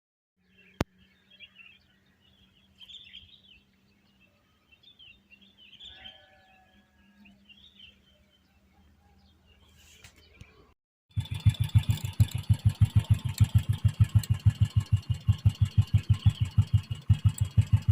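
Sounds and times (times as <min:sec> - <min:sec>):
small birds chirping: 0:00.4 - 0:10.8, 0:11.4 - 0:17.9.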